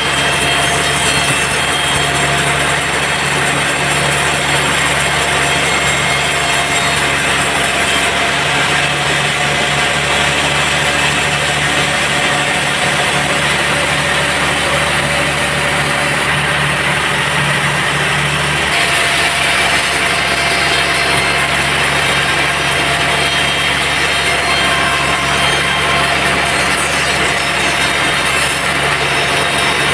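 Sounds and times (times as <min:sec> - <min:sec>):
bandsaw machinery humming: 0:00.0 - 0:29.9.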